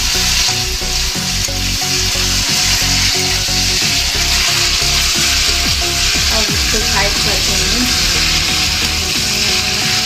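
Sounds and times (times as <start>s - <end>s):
chicken sizzling in oil: 0.0s - 10.0s.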